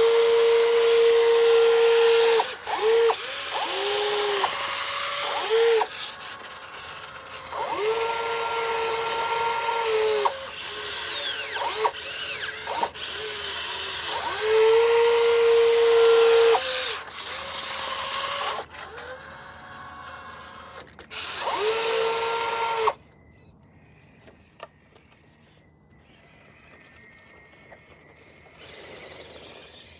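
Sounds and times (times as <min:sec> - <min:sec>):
small electric motors whining: 0:00.0 - 0:29.9.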